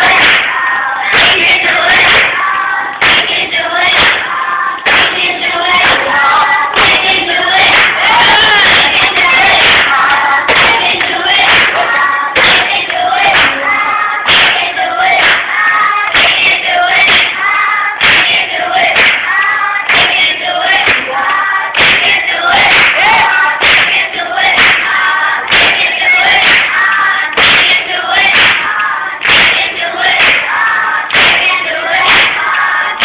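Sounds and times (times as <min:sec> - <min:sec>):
choir singing: 0:00.0 - 0:33.0
percussive clapping beat: 0:00.0 - 0:33.0.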